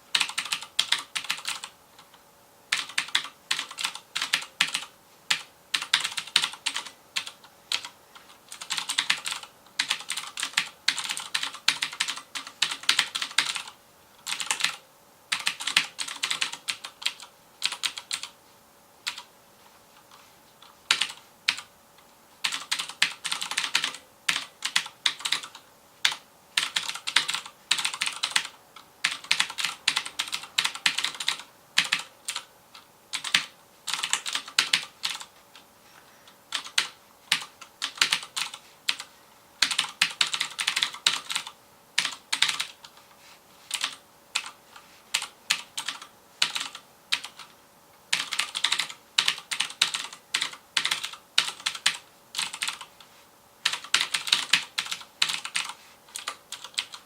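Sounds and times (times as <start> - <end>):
clicky mechanical keyboard typing: 0.1 - 18.4, 19.0 - 19.3, 20.1 - 21.7, 22.4 - 35.7, 36.5 - 43.0, 43.7 - 47.5, 48.1 - 53.0, 53.6 - 57.0.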